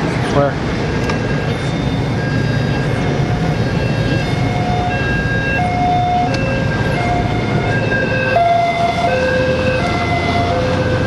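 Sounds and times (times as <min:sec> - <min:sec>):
electronic siren switching pitch: 0:01.2 - 0:11.0.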